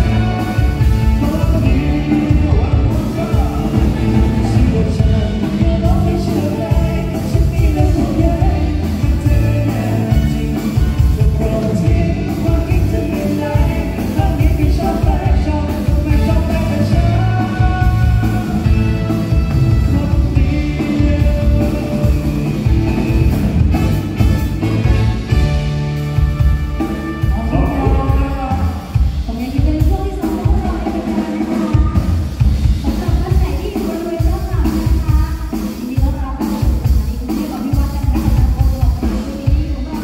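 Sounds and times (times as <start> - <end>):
lead singer: 0.0 - 40.0
live rock band playing: 0.0 - 40.0.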